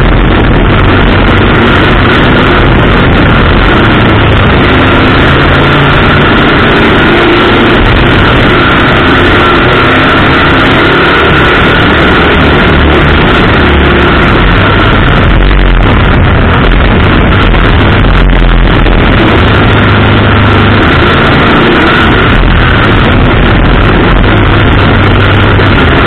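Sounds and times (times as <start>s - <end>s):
race car engine at speed: 0.0s - 26.0s.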